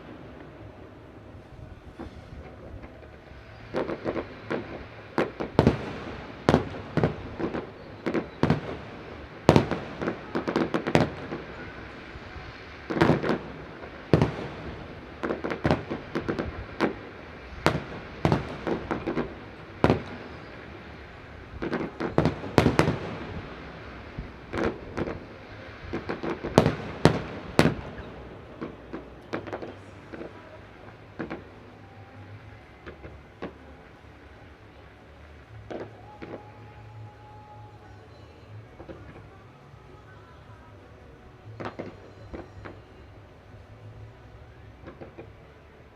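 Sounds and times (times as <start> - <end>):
fireworks bangs: 0.0 - 40.6, 44.5 - 45.8.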